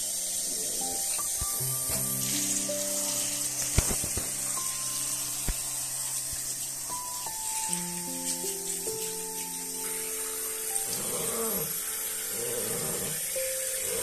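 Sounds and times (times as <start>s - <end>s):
background music: 0.0s - 14.0s
shower water spraying: 0.0s - 14.0s.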